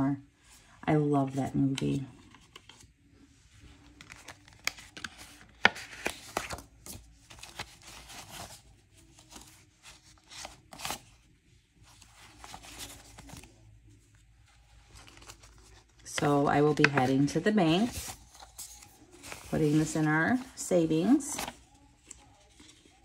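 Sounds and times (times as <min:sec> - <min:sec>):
paper rustling: 0:03.7 - 0:11.2, 0:11.8 - 0:23.0.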